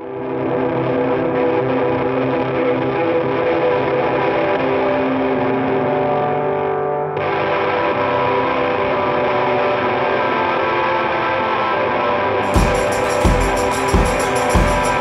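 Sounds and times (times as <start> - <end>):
guitar with effects playing chords: 0.0 - 15.0.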